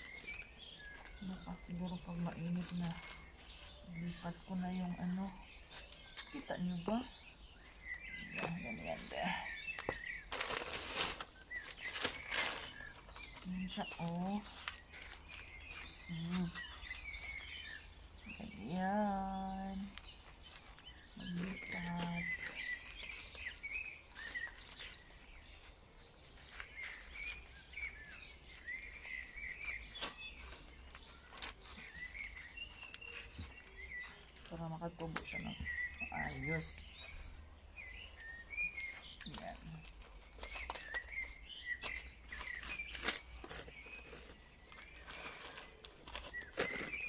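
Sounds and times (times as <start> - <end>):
soil and seedlings being potted: 0.0 - 47.0
songbirds chirping: 0.0 - 47.0.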